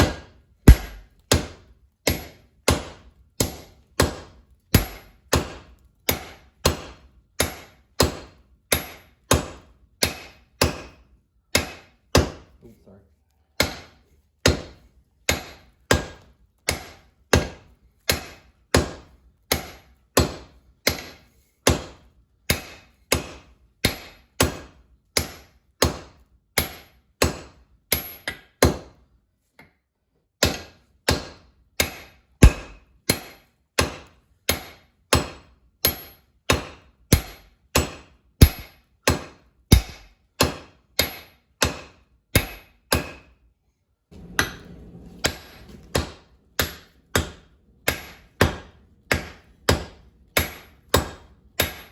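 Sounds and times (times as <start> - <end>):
hammer striking steel on anvil: 0.0 - 12.5, 13.6 - 26.0, 30.4 - 43.3, 45.2 - 51.9.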